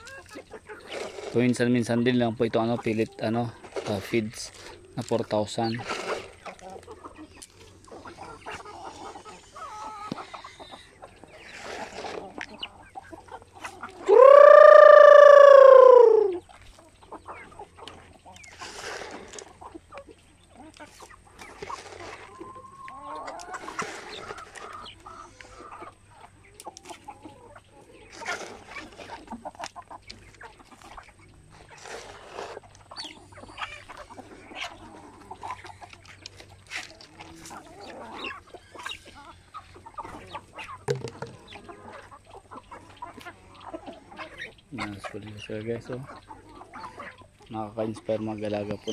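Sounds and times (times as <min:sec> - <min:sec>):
chickens clucking and calling: 0:00.0 - 0:48.9.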